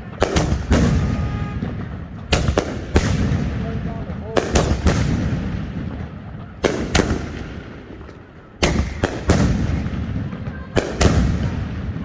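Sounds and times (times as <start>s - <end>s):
firework bangs with rumbling echo: 0.0s - 12.0s.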